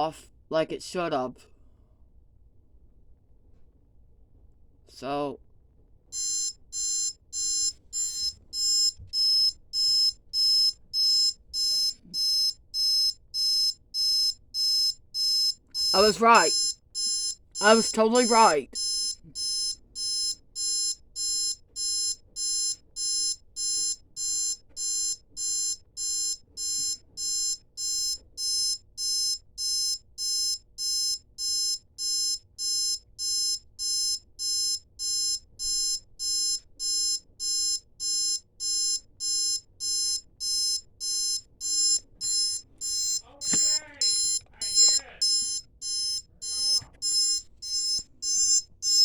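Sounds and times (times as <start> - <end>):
alarm clock beeping: 6.2 - 49.0.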